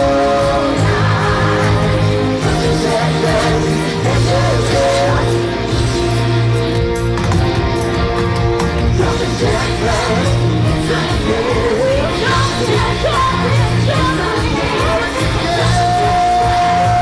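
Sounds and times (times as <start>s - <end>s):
person singing: 0.0s - 6.1s, 8.6s - 17.0s
loud rock music: 0.0s - 17.0s.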